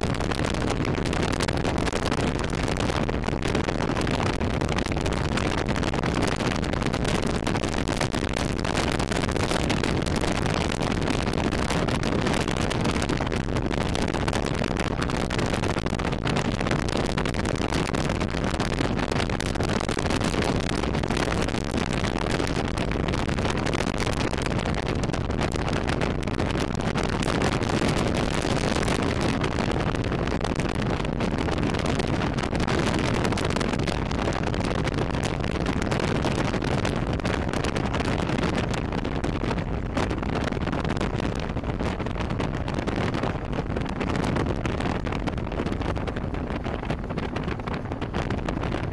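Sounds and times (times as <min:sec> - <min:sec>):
wind rush on microphone: 0:00.0 - 0:48.9.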